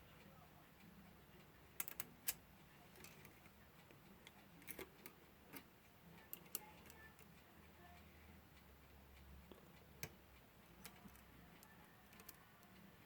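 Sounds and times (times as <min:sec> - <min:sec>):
small clicks of clock parts: 0:01.3 - 0:13.0.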